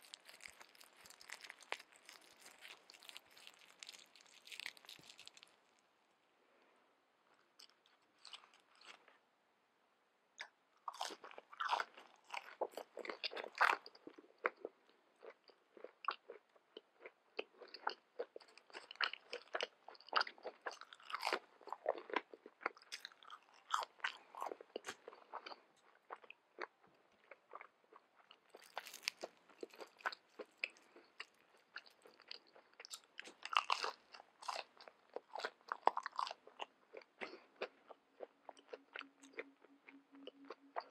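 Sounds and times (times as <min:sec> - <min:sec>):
crispy fried fish crunching: 0:00.0 - 0:05.8, 0:07.5 - 0:09.1, 0:10.9 - 0:26.7, 0:27.3 - 0:39.5.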